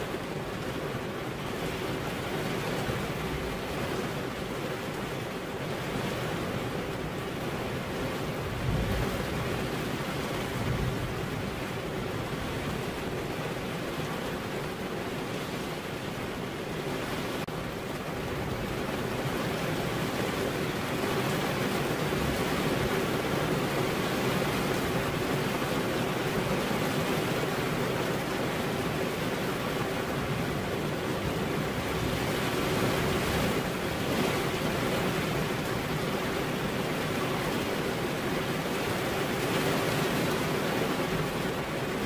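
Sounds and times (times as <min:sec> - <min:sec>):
rain on car windshield: 0:00.0 - 0:42.0.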